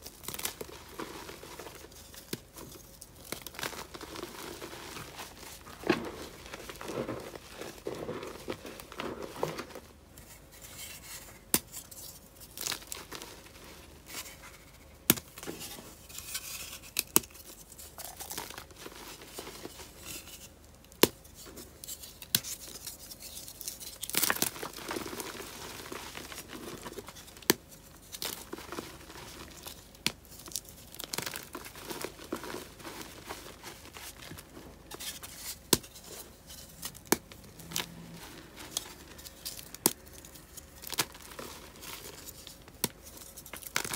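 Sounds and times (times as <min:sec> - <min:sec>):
chalk crunching and crumbling: 0:00.0 - 0:43.9.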